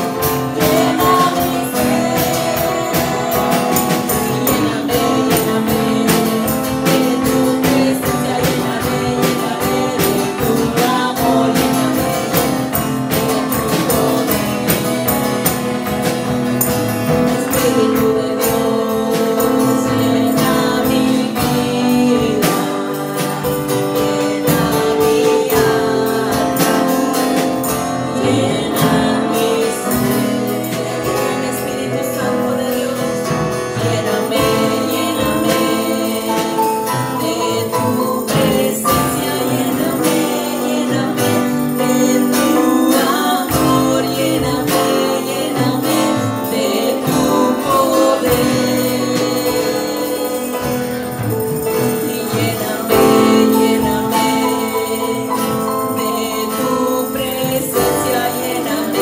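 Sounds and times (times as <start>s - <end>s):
acoustic guitar: 0.0s - 59.0s
drum kit: 0.0s - 59.0s
women singing: 0.0s - 59.0s.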